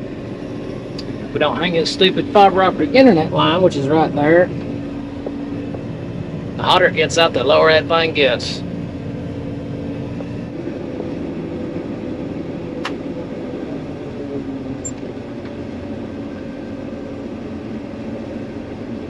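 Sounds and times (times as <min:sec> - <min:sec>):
large diesel engine running: 0:00.0 - 0:19.0.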